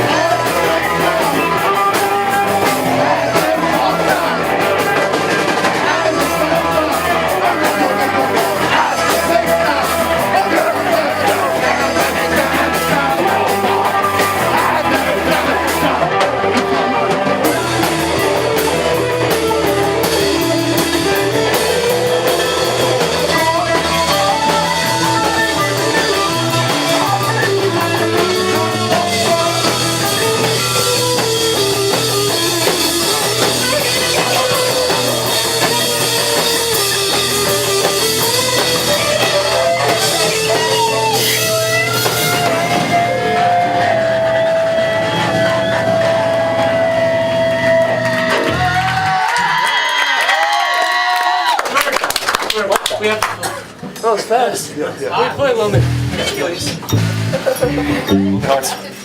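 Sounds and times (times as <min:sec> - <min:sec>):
rock band playing: 0:00.0 - 0:54.0, 0:55.1 - 0:59.0.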